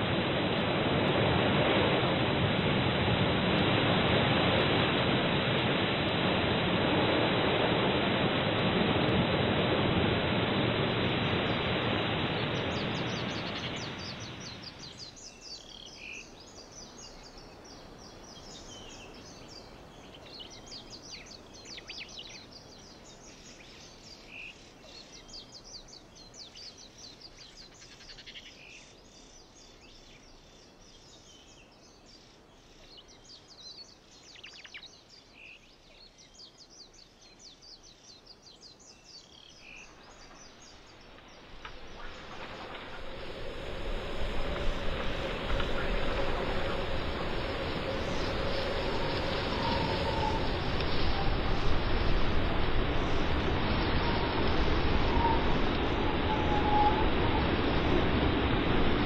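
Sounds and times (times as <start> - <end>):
faint steady hiss: 4.5 - 59.0.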